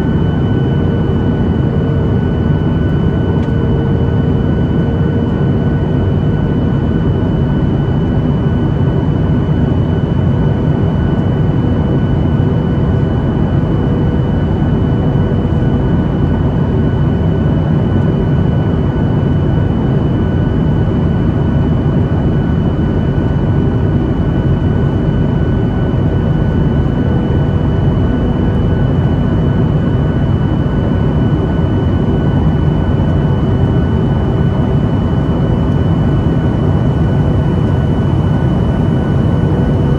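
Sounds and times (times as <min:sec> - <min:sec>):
jet engine and airflow noise: 0:00.0 - 0:39.9.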